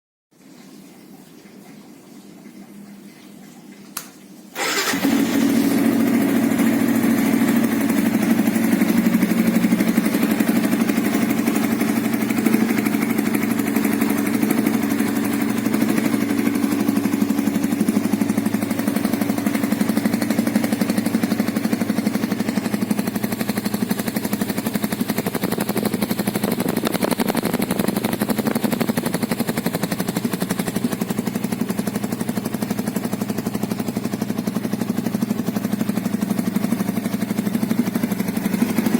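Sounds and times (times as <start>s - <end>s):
motorcycle engine starting and idling: 4.0s - 38.9s.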